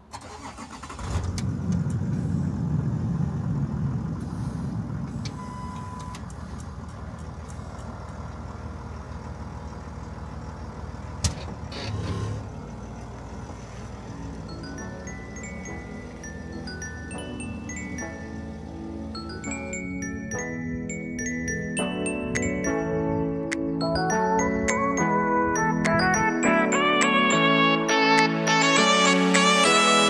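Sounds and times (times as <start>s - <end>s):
car engine starting and idling: 0.0s - 26.3s.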